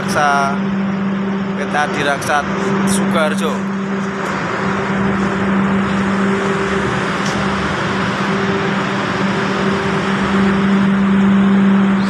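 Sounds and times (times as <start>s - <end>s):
sawmill machinery running: 0.0s - 12.0s.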